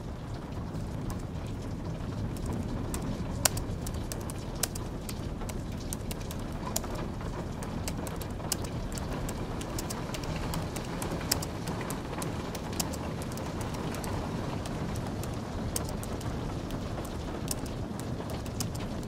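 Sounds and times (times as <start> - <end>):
rain hiss: 0.0 - 19.0.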